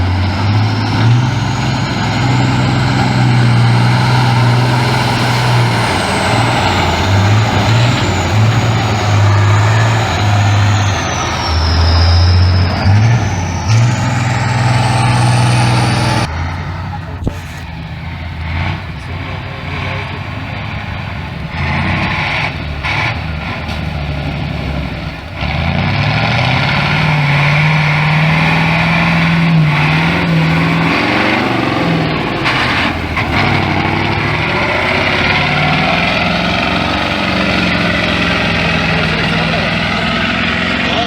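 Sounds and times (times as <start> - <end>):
truck engine under load: 0.0 - 41.0.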